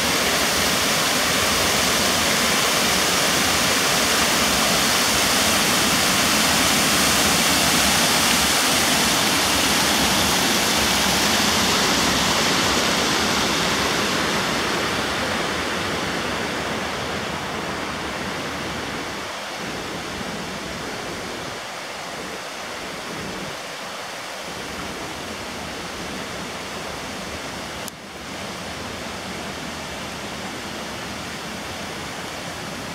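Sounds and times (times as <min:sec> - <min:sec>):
river rushing over stones: 0:00.0 - 0:32.9.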